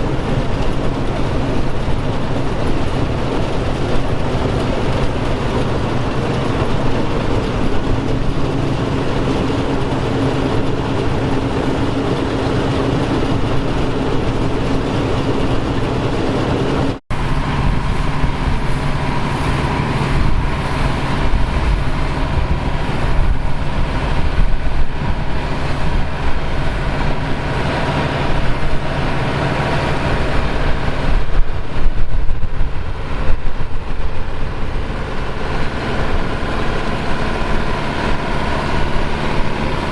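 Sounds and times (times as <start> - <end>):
harvest machinery engines running: 0.0 - 39.9
machine whine: 0.0 - 39.9.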